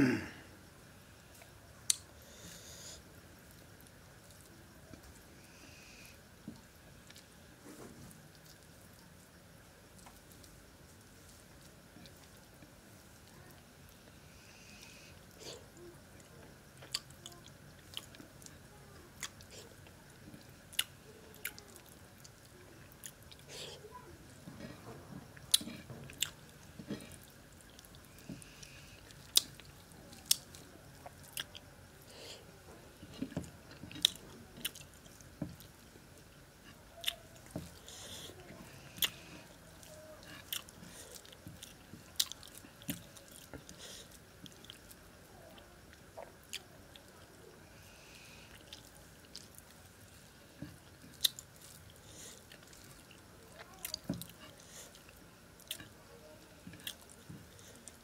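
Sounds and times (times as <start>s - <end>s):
man chewing food: 1.3s - 58.0s.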